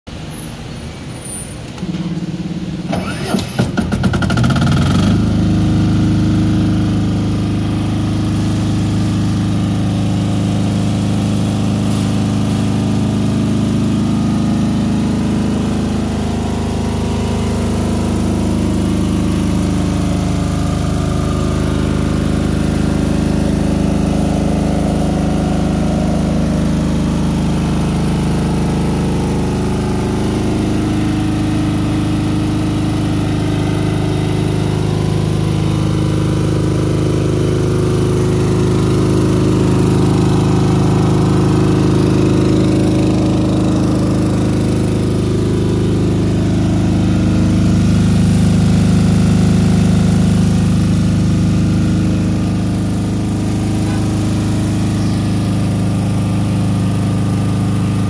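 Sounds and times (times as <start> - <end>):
diesel generator starting and humming: 0.1 - 58.0.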